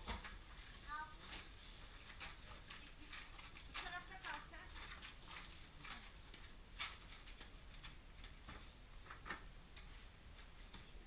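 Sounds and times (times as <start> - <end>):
scuffs and clicks of crawling: 0.0 - 11.0.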